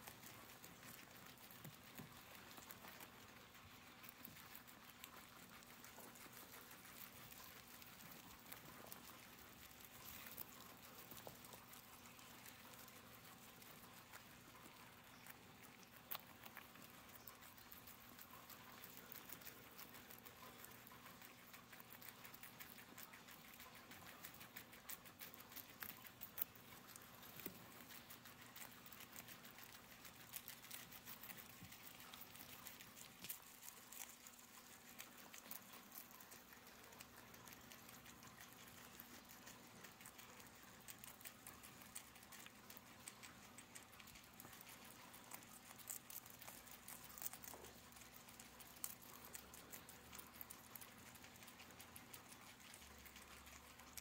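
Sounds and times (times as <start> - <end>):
guinea pigs chewing: 0.0 - 54.0.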